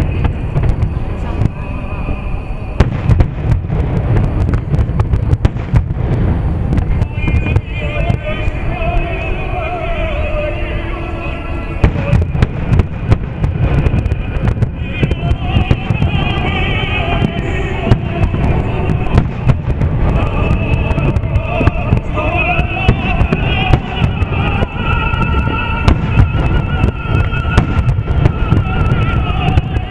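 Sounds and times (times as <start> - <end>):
fireworks bangs and cracks: 0.0 - 29.9
low continuous rumble: 0.0 - 29.9
music with vibrato singing: 0.0 - 29.9.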